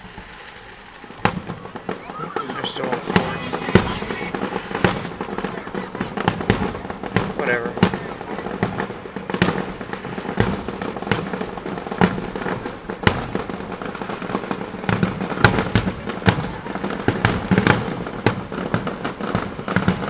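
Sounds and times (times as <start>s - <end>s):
fireworks bangs and cracks: 0.0s - 20.0s
fireworks display rumble: 0.0s - 20.0s.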